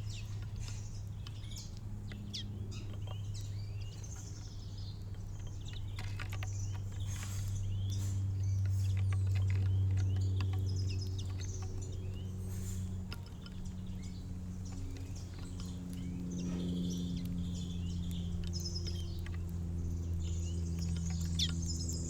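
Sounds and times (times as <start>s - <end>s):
songbirds chirping: 0.0s - 22.0s
steady low hum: 0.0s - 22.0s.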